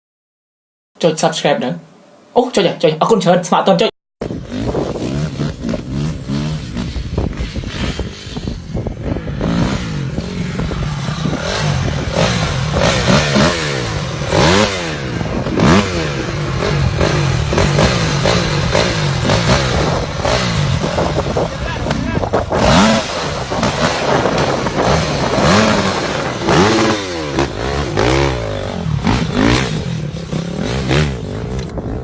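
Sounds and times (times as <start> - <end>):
motorcycle engine revving: 4.2 - 32.0.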